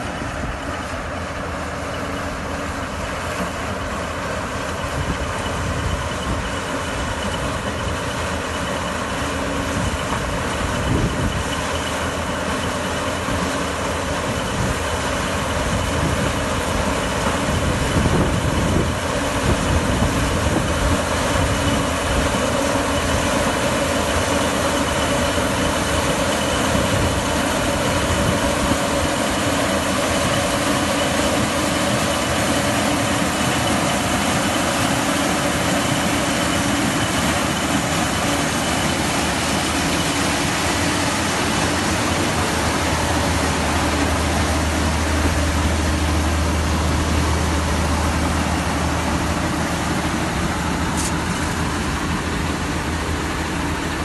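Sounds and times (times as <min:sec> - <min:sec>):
combine harvester engine drone: 0:00.0 - 0:54.0
high steady whine: 0:00.0 - 0:54.0.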